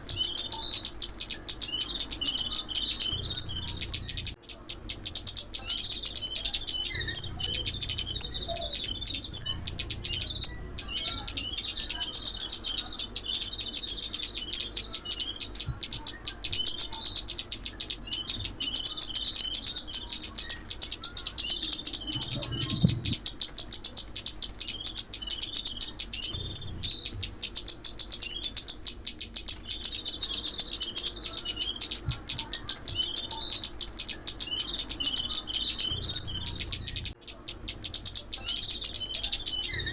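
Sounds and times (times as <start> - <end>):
birds twittering chirps: 0.0 - 39.9.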